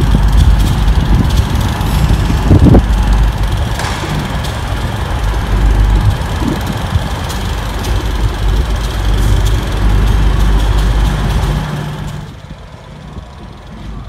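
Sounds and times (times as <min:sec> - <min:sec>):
station ambience: 0:00.0 - 0:14.0
train rumbling close by: 0:00.0 - 0:14.0.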